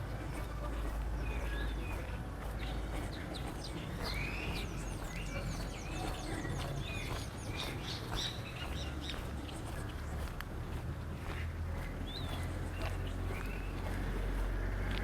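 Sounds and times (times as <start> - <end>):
birds chirping: 0.0 - 15.0
low background rumble: 0.0 - 15.0.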